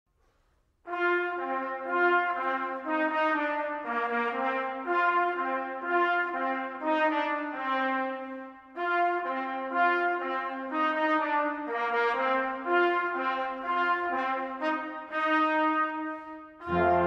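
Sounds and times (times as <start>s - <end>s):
brass choir playing chords: 0.9s - 17.0s.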